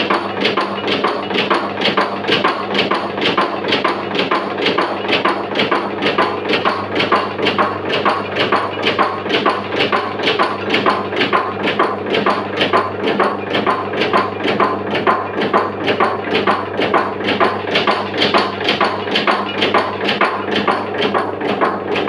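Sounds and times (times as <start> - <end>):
tablet press rhythmic clatter: 0.0 - 22.0.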